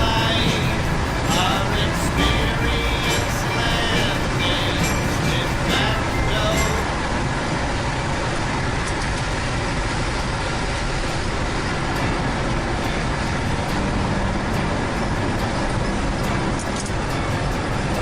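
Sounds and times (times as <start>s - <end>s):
vehicle road and engine noise: 0.0s - 18.0s.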